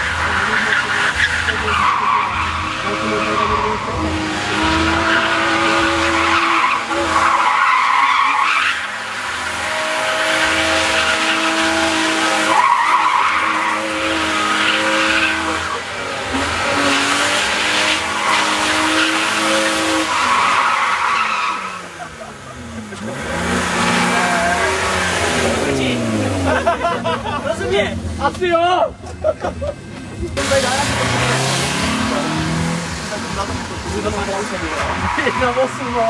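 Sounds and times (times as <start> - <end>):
car engine at high revs: 0.0 - 36.0
tyres screeching: 0.0 - 36.0.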